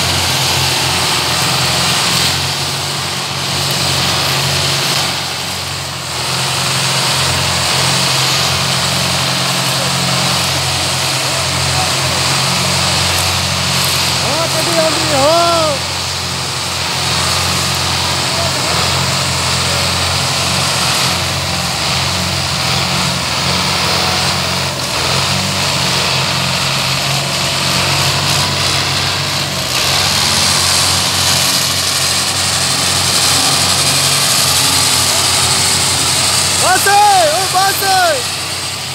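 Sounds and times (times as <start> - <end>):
tractor diesel engines under load: 0.0 - 38.9.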